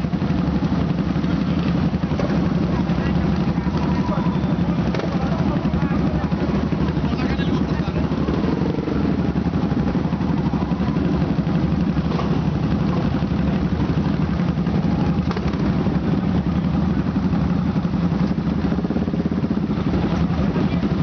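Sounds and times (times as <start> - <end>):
motorcycle engines idling: 0.0 - 21.0.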